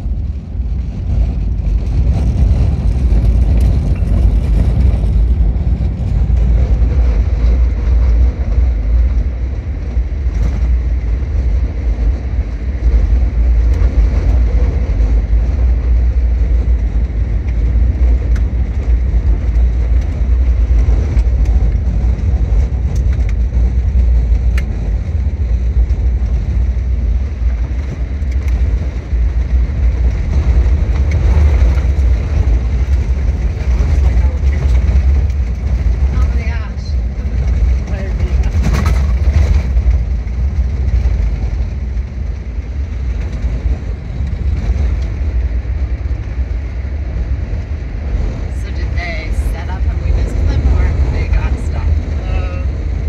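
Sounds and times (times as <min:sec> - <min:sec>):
engine and tyres rumbling: 0:00.0 - 0:53.0.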